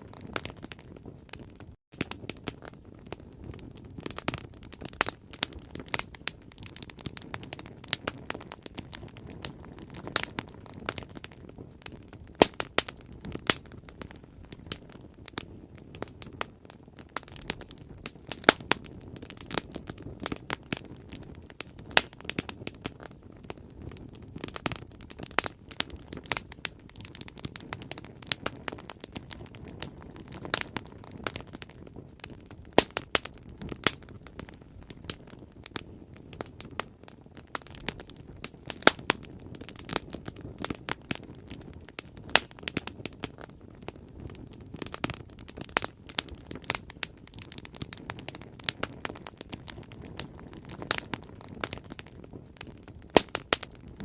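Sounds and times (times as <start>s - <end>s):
burning wood crackling and popping: 0.0s - 54.0s
low rush of flame: 0.0s - 54.0s.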